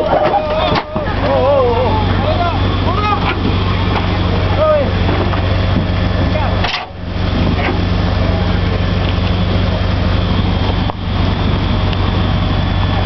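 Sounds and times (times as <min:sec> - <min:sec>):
fire burning with rushing noise: 0:00.0 - 0:13.0
heavy engine running: 0:00.0 - 0:13.0.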